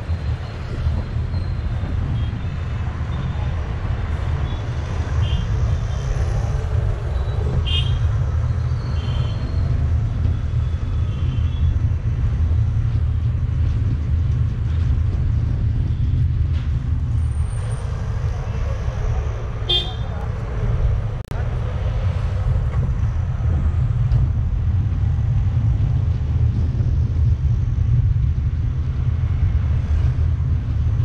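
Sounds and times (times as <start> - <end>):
car driving low rumble: 0.0 - 31.0
road and traffic noise: 0.0 - 31.0.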